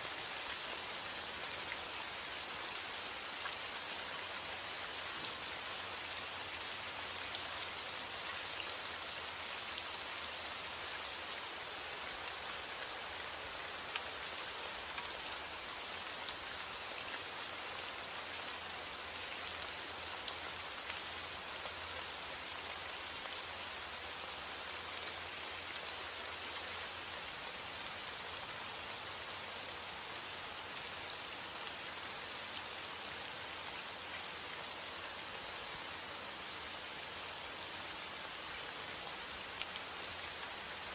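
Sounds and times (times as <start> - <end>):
heavy rain on a surface: 0.0 - 40.9.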